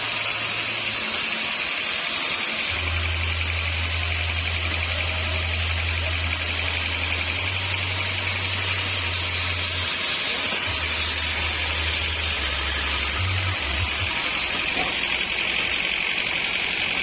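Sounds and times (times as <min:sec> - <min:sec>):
sawmill machinery hiss and hum: 0:00.0 - 0:17.0.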